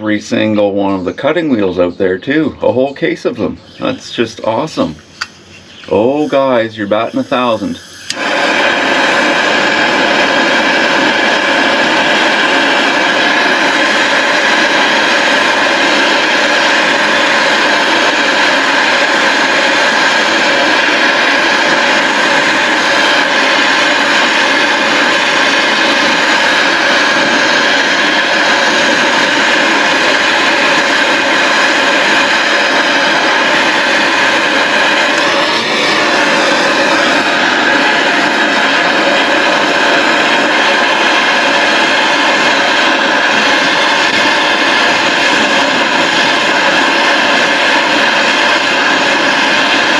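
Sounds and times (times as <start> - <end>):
machine running with whine: 0.0 - 49.9.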